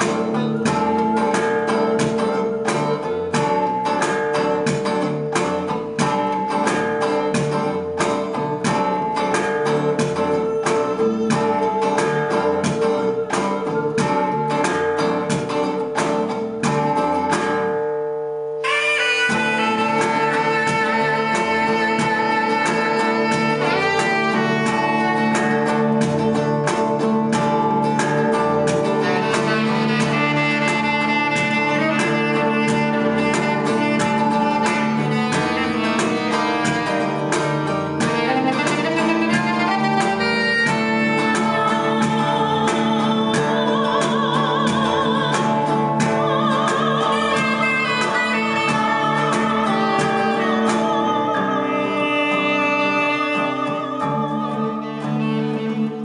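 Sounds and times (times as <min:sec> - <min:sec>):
held drone note: 0:00.0 - 0:56.0
strummed and plucked guitar: 0:00.0 - 0:56.0.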